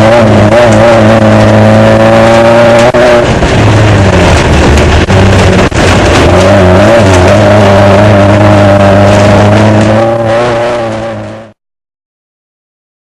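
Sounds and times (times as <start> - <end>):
race car engine running hard: 0.0 - 11.6.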